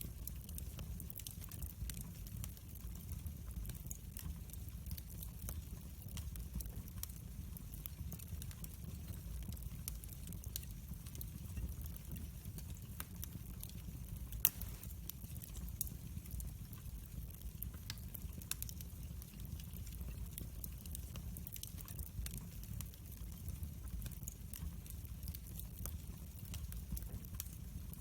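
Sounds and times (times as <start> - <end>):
loud fire crack: 0.0 - 28.0
wood fire crackling: 0.0 - 28.0.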